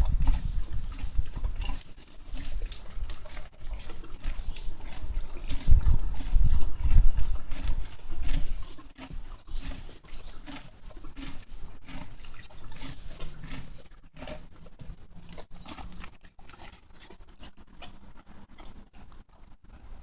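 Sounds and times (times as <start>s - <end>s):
horse chewing crunches: 0.0s - 20.0s.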